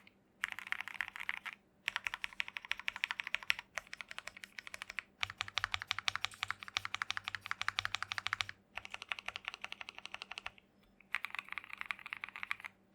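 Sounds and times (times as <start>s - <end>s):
fast typing on mechanical keyboard: 0.4s - 12.7s.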